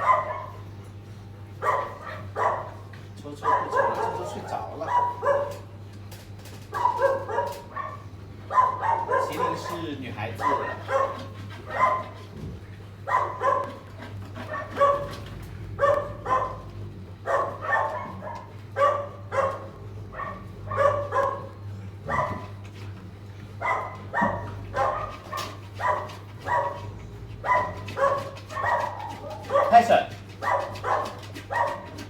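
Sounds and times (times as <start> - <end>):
dog barking: 0.0 - 0.7, 1.6 - 5.8, 6.7 - 22.8, 23.5 - 32.0.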